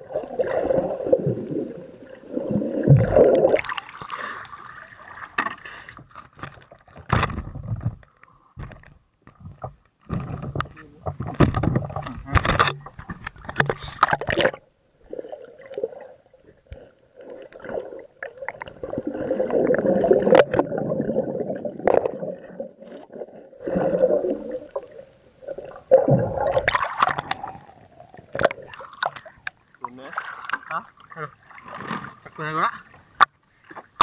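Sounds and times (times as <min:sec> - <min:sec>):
underwater gurgling and sloshing: 0:00.0 - 0:34.0.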